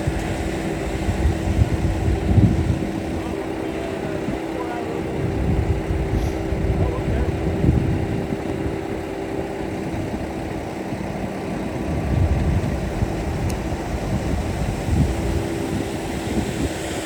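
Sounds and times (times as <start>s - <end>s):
engine running low rumble: 0.0s - 17.0s.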